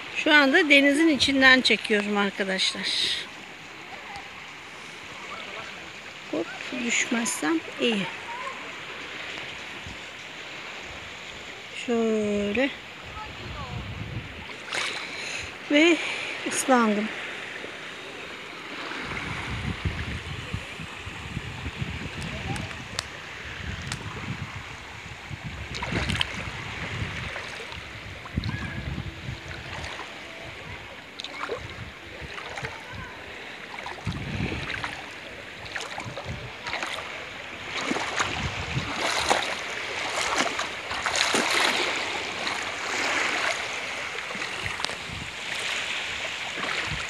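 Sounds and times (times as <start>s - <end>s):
water sloshing around wading legs: 0.0s - 13.7s, 14.3s - 21.0s, 22.1s - 47.0s.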